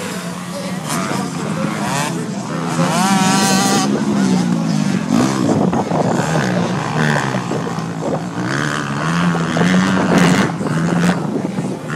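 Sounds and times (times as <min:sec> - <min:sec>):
motocross bike engines revving: 0:00.0 - 0:11.9.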